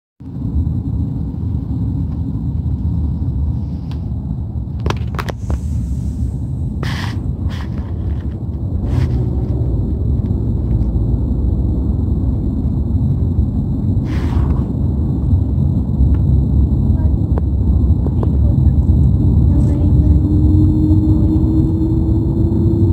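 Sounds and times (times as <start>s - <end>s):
traffic rumble: 0.2s - 22.9s.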